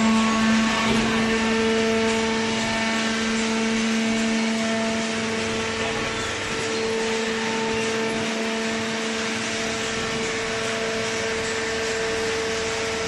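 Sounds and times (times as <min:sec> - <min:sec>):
hydraulic pump motor humming: 0:00.0 - 0:13.0
machine noise: 0:00.0 - 0:13.0.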